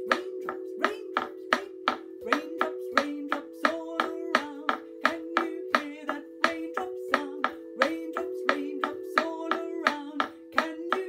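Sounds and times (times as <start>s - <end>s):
woman singing: 0.0s - 11.0s
wooden sticks tapping: 0.0s - 11.0s.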